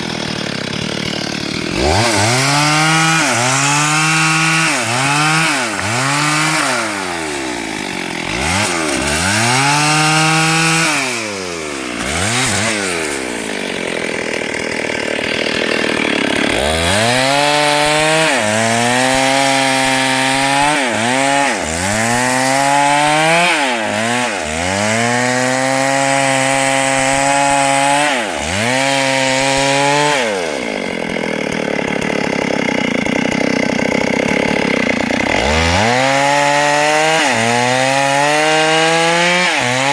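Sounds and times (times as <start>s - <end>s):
chainsaw cutting hardwood: 0.0s - 39.9s.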